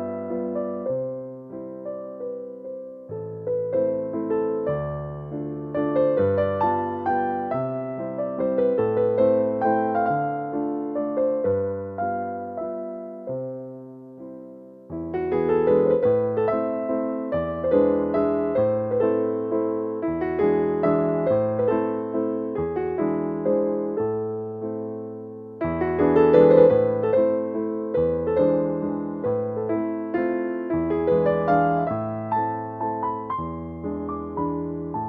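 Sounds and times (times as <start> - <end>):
slow gentle piano melody: 0.0 - 35.0.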